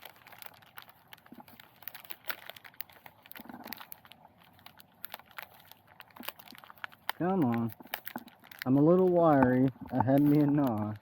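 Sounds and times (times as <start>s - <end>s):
plastic crinkling and clicking: 0.0s - 11.0s.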